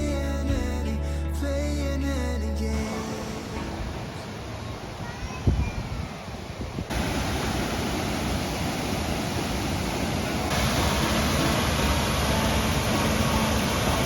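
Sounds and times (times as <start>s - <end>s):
waterfall rushing: 2.7s - 14.0s.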